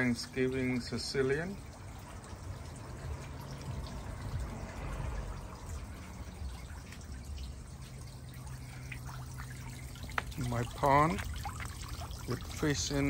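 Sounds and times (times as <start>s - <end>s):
fountain splashing and trickling: 0.0s - 13.0s.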